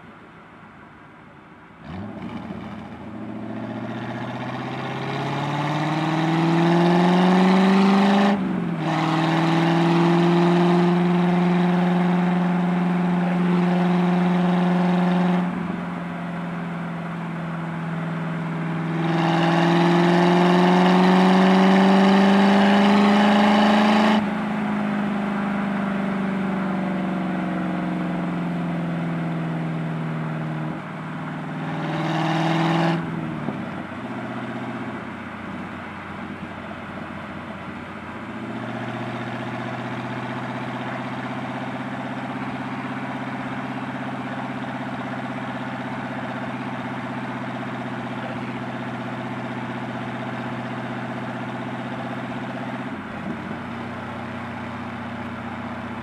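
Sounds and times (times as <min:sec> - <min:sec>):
car engine revving: 0:01.8 - 0:56.0.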